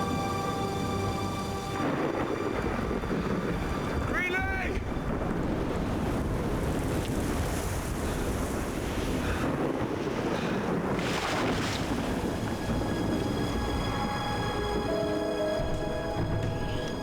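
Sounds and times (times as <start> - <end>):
storm wind rushing: 0.0 - 17.0.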